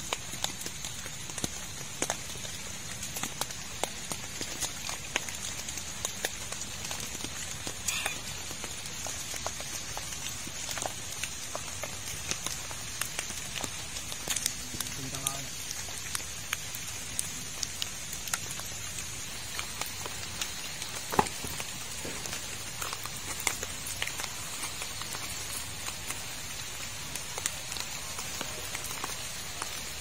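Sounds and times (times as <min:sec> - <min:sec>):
raindrops tapping on plastic tarp: 0:00.0 - 0:30.0
steady rain falling: 0:00.0 - 0:30.0.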